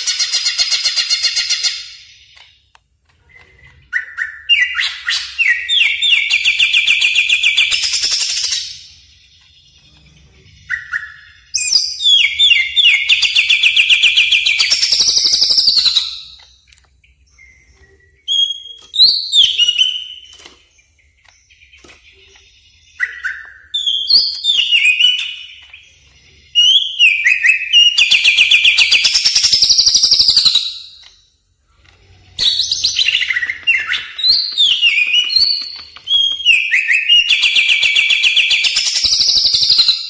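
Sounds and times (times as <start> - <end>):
bird singing trilled phrases: 0.0 - 40.0.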